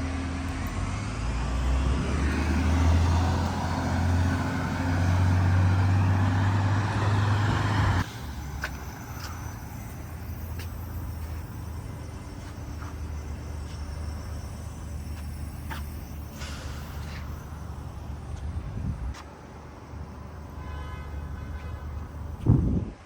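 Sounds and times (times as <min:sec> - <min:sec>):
road noise: 0:00.0 - 0:23.0
vehicle engine droning: 0:00.0 - 0:23.0.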